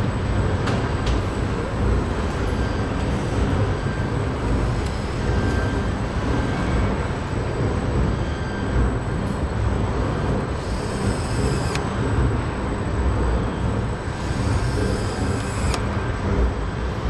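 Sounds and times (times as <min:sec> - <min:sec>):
machinery rumble and hiss: 0:00.0 - 0:17.0.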